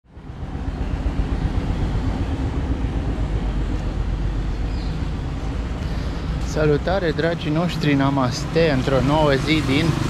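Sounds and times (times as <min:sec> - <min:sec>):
street background rumble: 0:00.0 - 0:10.0.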